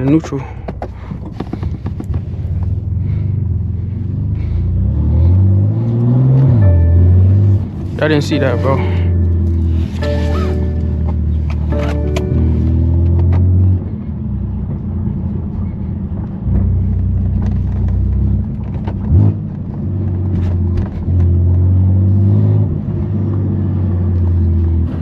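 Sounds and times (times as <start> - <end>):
car engine droning: 0.0 - 25.0.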